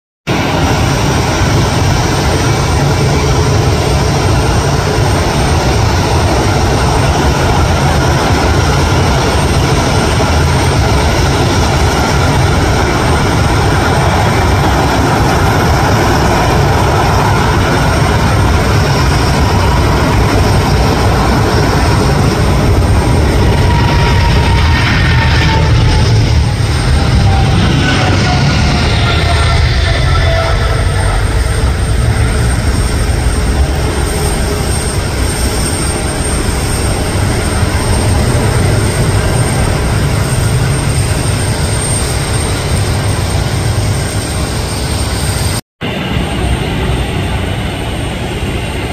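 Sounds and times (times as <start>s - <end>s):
jet engines running: 0.3s - 48.9s.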